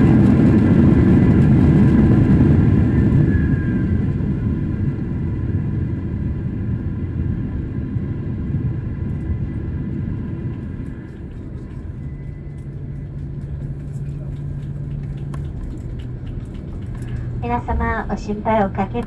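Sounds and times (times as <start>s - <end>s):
jet cabin low rumble: 0.0s - 19.0s
steady low hum: 0.0s - 19.0s.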